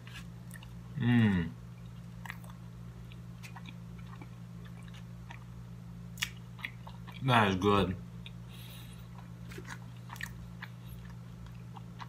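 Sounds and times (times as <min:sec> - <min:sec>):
person chewing food: 0:00.0 - 0:07.4, 0:08.2 - 0:12.0
steady low hum: 0:00.0 - 0:12.0.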